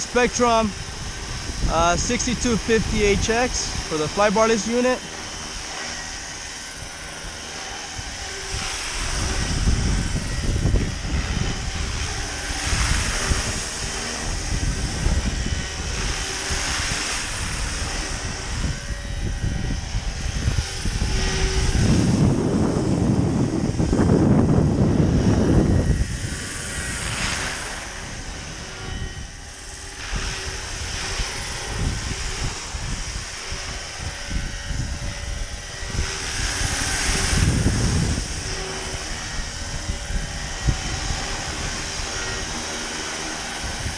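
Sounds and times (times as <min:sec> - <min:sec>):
model helicopter rotors whining: 0:00.0 - 0:43.9
wind buffeting microphone: 0:00.0 - 0:43.9.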